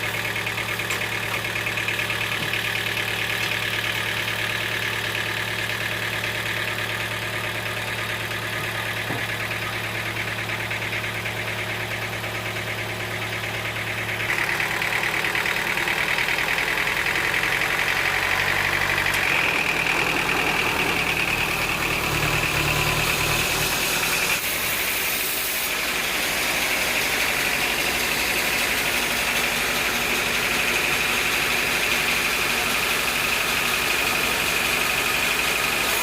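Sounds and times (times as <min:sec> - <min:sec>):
sawmill machinery engine hum: 0:00.0 - 0:36.0.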